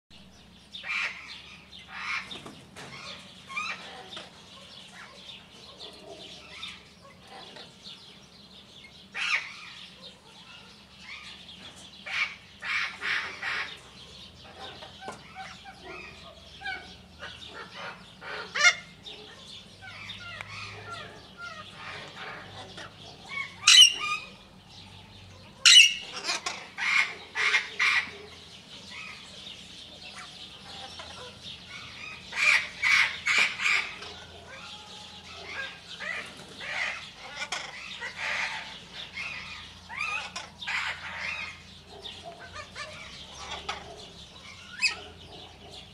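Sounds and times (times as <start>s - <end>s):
birds chirping and calling: 0.1s - 45.9s.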